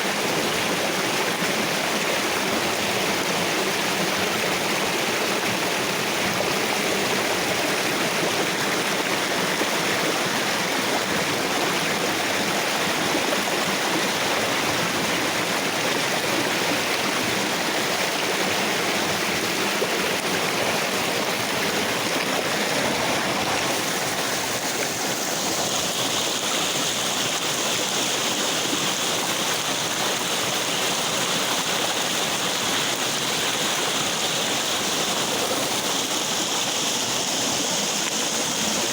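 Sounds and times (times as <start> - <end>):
flowing river water: 0.0 - 38.9.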